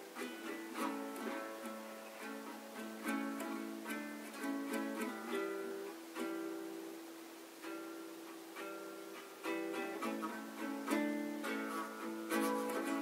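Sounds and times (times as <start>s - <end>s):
plucked string instrument: 0.0s - 13.0s.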